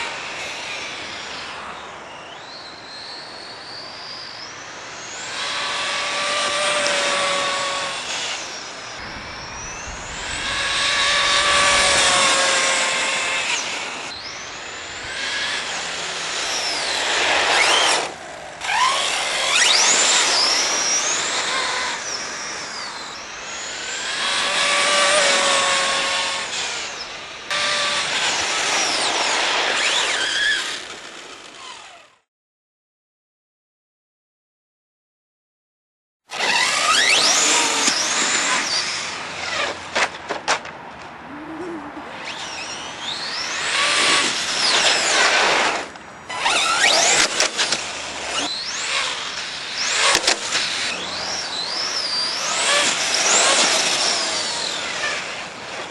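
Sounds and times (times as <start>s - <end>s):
electric motor whine of rc truck: 0.0s - 32.3s, 36.3s - 40.2s, 42.1s - 55.9s.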